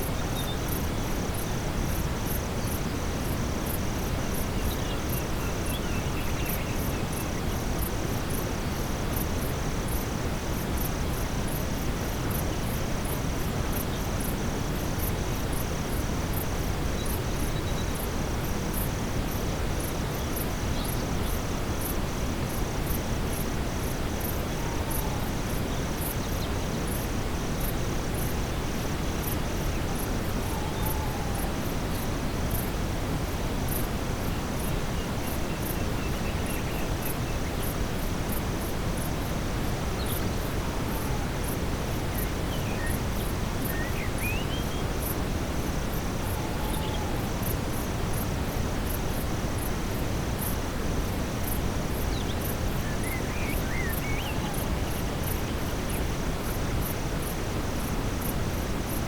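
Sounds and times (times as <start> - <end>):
crickets chirping: 0.0 - 59.0
steady brown noise: 0.0 - 59.0.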